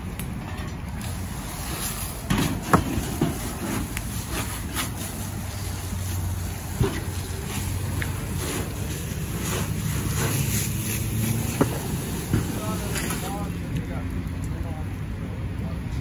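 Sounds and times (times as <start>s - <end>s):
fire hose spraying water: 0.9s - 15.9s.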